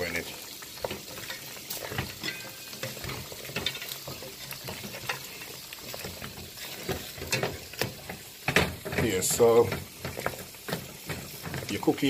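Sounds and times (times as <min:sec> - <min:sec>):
wooden spoon stirring thick sauce: 0:00.0 - 0:12.0.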